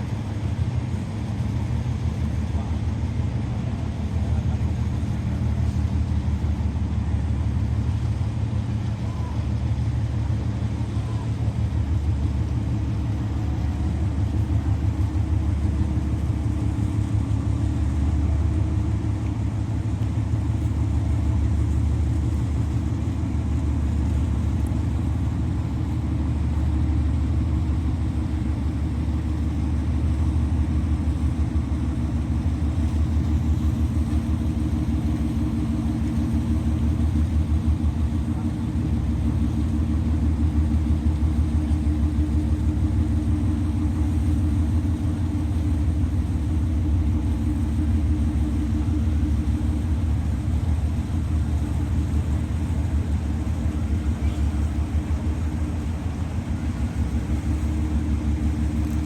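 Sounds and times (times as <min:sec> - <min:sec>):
large engine rumbling: 0:00.0 - 0:59.0.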